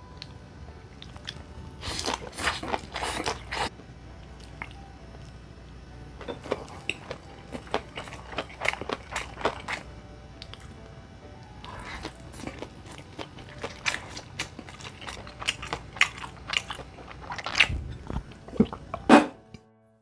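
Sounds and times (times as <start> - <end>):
close-up chewing and biting: 0.9 - 5.4, 6.2 - 10.8, 11.5 - 19.5.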